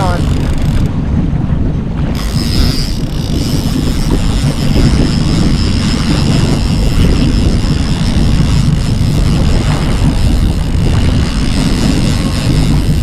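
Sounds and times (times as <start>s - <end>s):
boat motor running: 0.0s - 13.0s
wind buffeting microphone: 0.0s - 13.0s.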